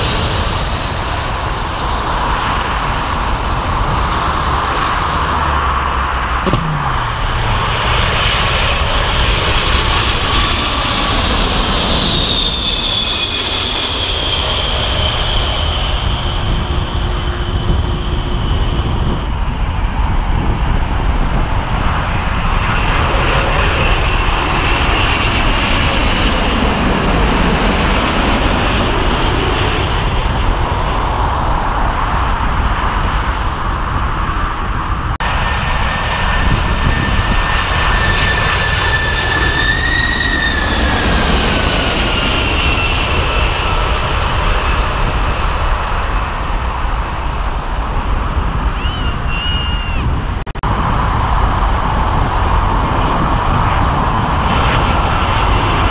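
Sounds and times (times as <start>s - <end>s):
high jet engine whine: 0.0s - 55.9s
jet airliner roaring overhead: 0.0s - 55.9s.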